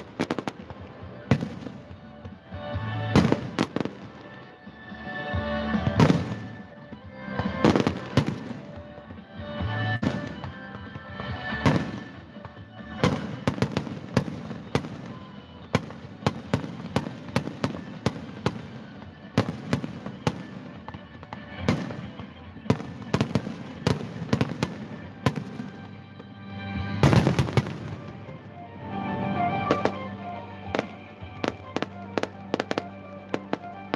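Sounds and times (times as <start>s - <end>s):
music: 0.0s - 33.9s.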